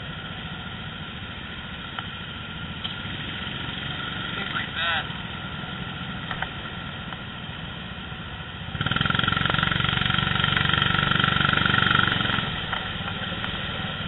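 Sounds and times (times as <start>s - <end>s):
go-kart engines running: 0.0s - 14.0s.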